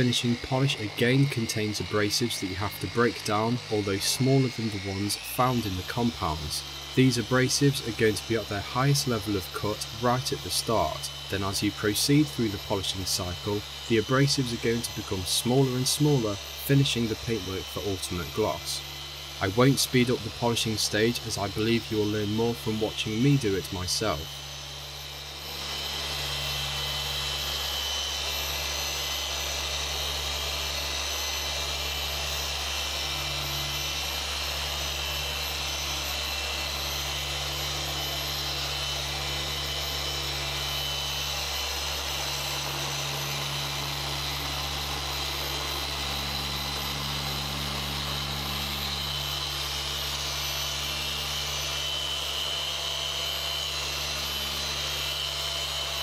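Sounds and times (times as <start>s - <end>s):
polisher humming with a hiss: 0.0s - 24.6s, 25.2s - 52.6s.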